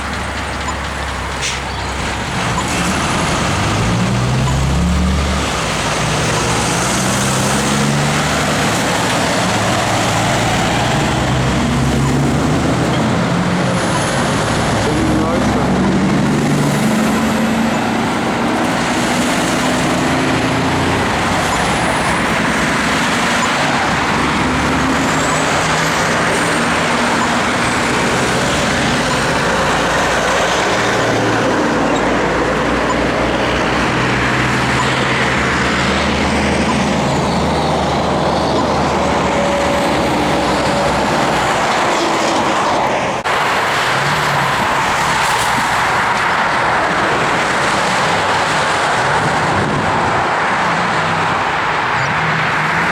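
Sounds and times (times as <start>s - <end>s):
heavy road traffic: 0.0s - 52.9s.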